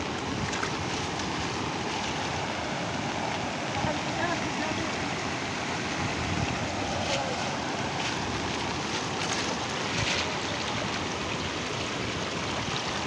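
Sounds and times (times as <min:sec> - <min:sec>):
wind on microphone: 0:00.0 - 0:11.6
floodwater rushing over a spillway: 0:00.0 - 0:13.0.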